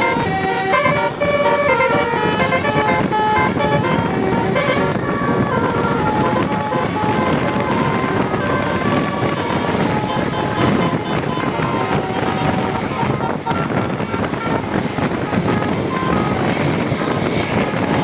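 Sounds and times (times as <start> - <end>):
bus engine noise: 0.0 - 18.0
bus horn playing a melody: 0.0 - 18.0.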